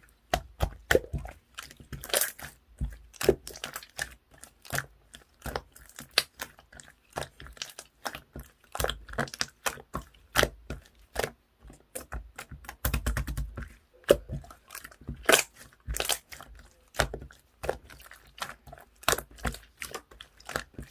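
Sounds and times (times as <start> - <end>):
slime clicking and crackling: 0.0 - 20.9
slime squishing: 0.0 - 20.9.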